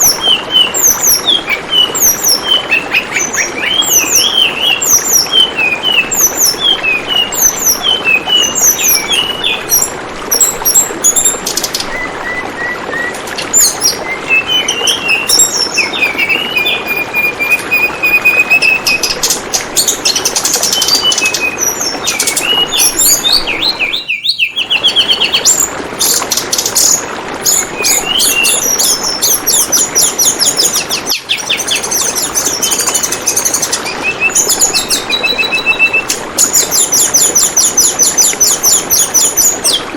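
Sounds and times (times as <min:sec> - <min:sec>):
songbird chirping and trilling: 0:00.0 - 0:39.9
trickling water: 0:00.0 - 0:39.9.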